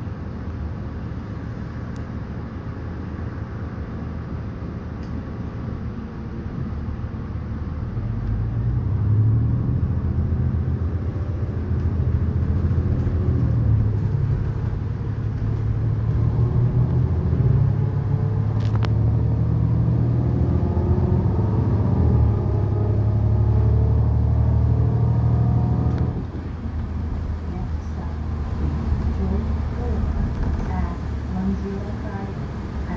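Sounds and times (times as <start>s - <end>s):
bus engine drone: 0.0s - 32.9s.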